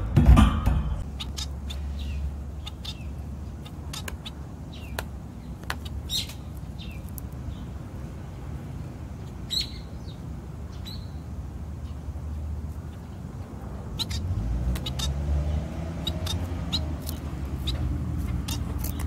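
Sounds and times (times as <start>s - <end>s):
small birds chirping: 1.0s - 19.0s.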